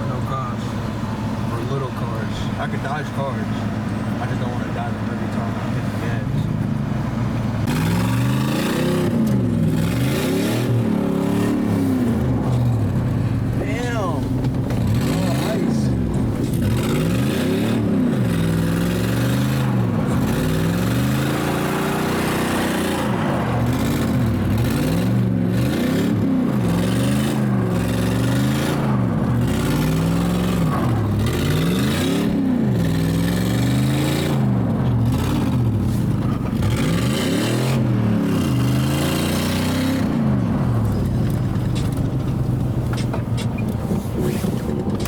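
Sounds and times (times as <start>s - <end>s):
truck engine revving: 0.0s - 45.0s.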